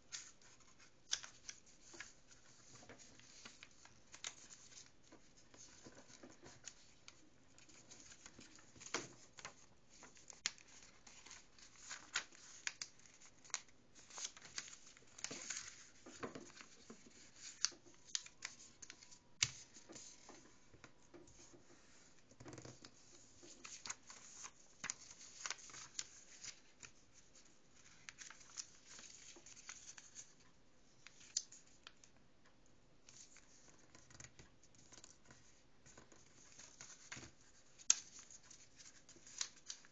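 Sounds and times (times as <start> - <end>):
paper rustling and crinkling: 0.0 - 32.0, 33.1 - 39.9.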